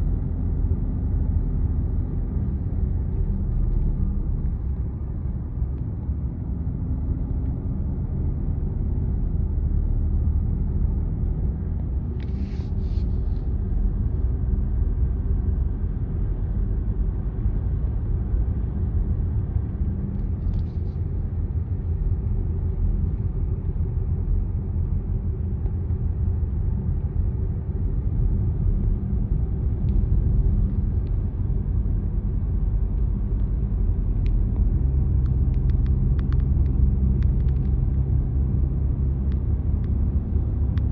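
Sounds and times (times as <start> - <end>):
car engine rumble: 0.0 - 40.9.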